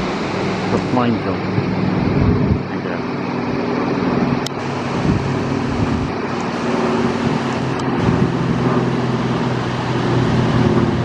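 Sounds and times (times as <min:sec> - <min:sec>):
propeller plane flying overhead: 0:00.0 - 0:11.0.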